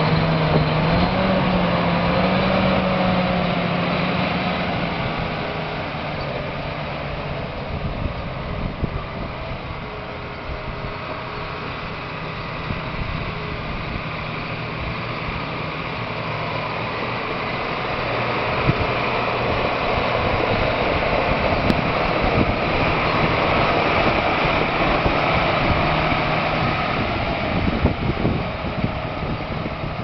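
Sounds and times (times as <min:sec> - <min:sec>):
tractor diesel engine: 0:00.0 - 0:30.0.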